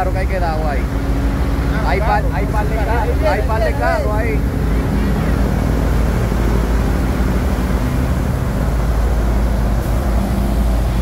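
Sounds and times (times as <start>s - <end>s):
truck diesel engines running: 0.0s - 11.0s
water surging and splashing: 0.0s - 11.0s.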